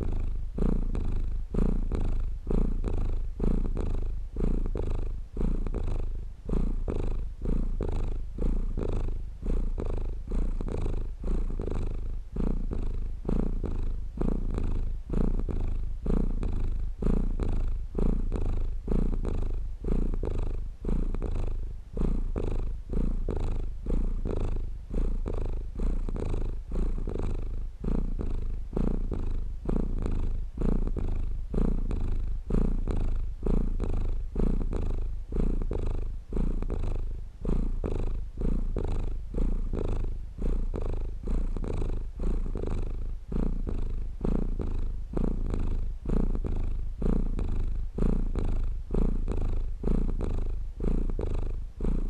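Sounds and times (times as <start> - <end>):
cat purring: 0.0 - 52.0.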